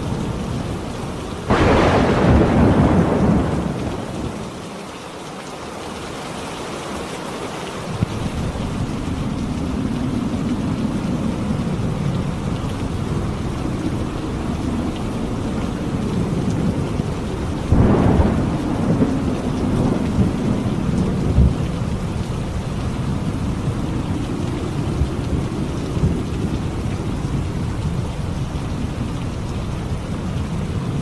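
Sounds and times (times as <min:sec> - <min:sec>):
heavy rain: 0:00.0 - 0:31.0
thunder clap and rumble: 0:01.4 - 0:04.7, 0:07.9 - 0:31.0.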